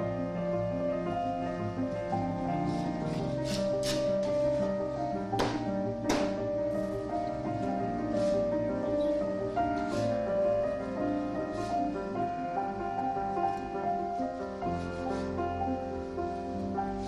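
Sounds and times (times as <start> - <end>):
piano-like background music: 0.0 - 17.0.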